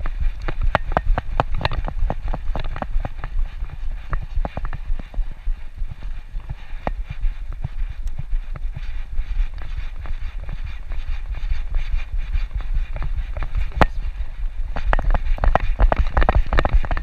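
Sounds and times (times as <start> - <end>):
clicks and taps of dog steps: 0.0 - 17.0
steady low rumble: 0.0 - 17.0.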